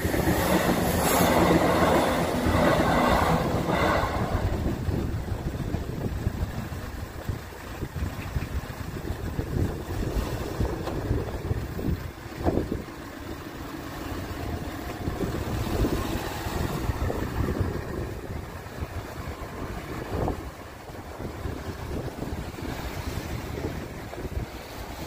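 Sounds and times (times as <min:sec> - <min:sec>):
road traffic passing: 0:00.0 - 0:25.0
wind buffeting microphone: 0:00.0 - 0:25.0.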